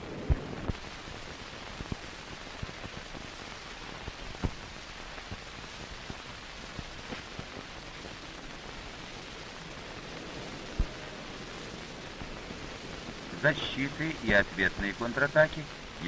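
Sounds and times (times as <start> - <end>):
film soundtrack hiss: 0.0 - 16.0.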